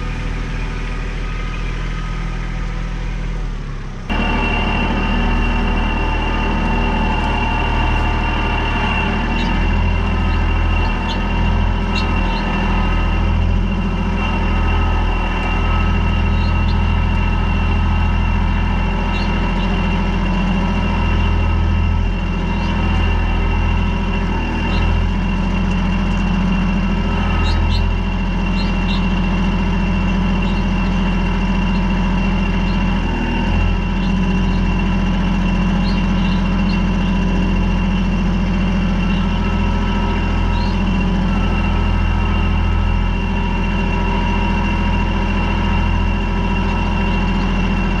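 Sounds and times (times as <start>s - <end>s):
tractor diesel engine running: 0.0s - 48.0s
thin high whine: 4.1s - 48.0s.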